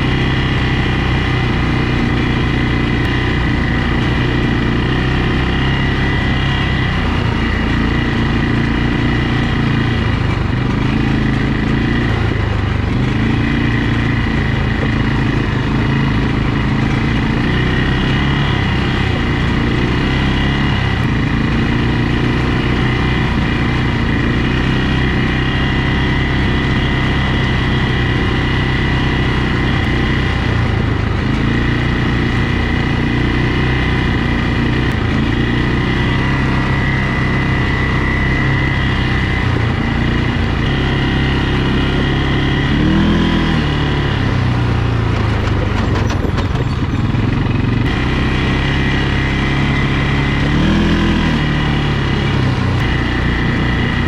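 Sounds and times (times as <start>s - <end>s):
quad bike engine revving: 0.0s - 54.0s
quad bike engine running: 0.0s - 54.0s.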